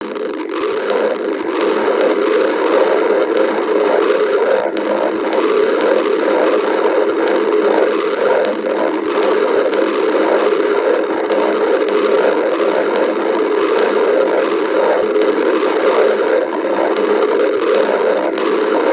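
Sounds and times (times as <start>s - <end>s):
stomach growling: 0.0s - 18.9s.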